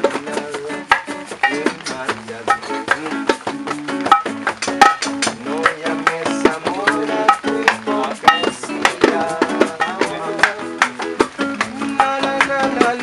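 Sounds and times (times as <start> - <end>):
man singing: 0.0 - 4.0, 4.6 - 13.0
acoustic guitar strumming: 0.0 - 13.0.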